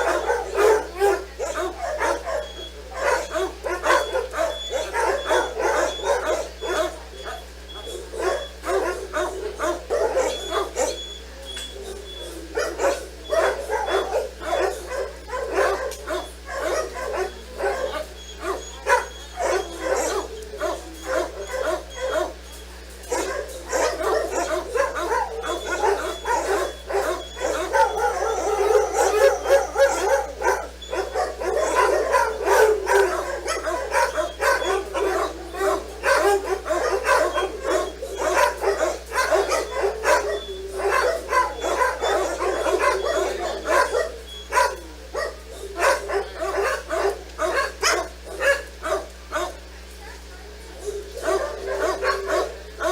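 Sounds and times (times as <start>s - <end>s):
dogs barking and yipping: 0.0s - 52.9s.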